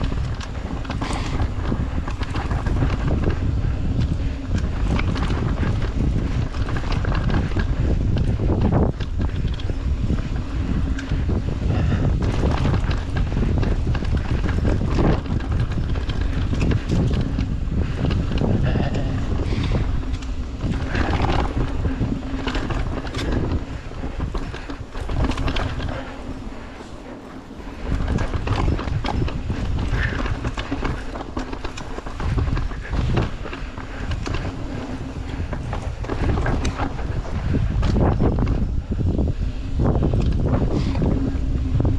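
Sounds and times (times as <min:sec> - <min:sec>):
bike rattling and knocking: 0:00.0 - 0:41.9
tyres on dirt and rock: 0:00.0 - 0:41.9
wind buffeting microphone: 0:00.0 - 0:41.9.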